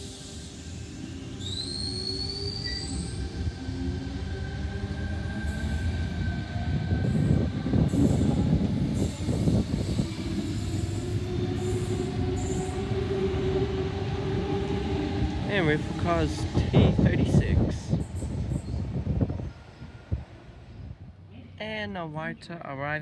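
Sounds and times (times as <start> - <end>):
electric train whine: 0.0 - 21.2
steady train tones: 0.0 - 21.8.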